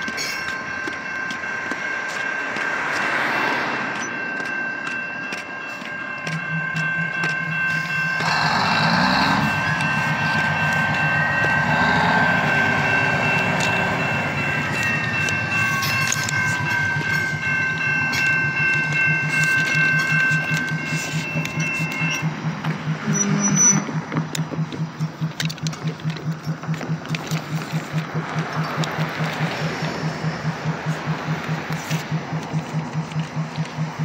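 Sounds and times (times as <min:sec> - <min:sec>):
diesel locomotive engine pulsing: 0:00.0 - 0:34.0
steady high tones: 0:00.0 - 0:34.0.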